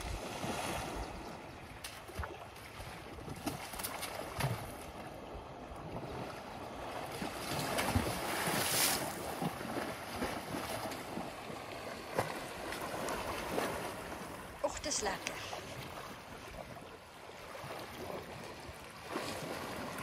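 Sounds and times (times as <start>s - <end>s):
elephant sloshing in water: 0.0s - 20.0s.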